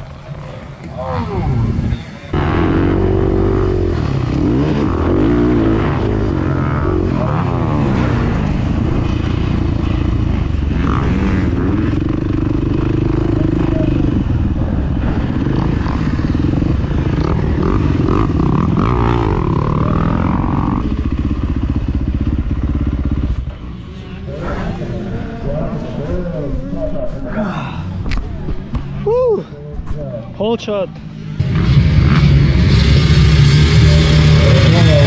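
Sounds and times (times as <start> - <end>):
motorbike engine revving: 0.0 - 26.7, 31.2 - 35.0.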